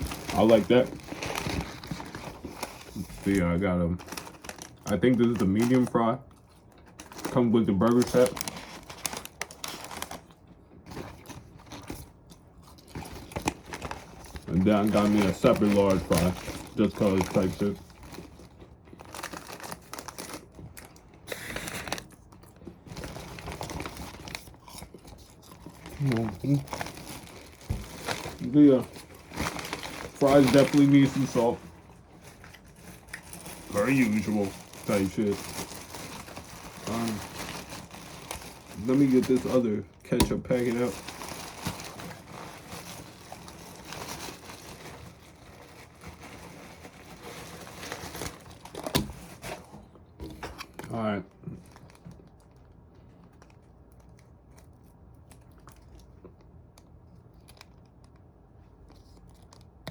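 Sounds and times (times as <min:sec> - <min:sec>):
paper packaging crinkling: 0:00.0 - 0:59.9.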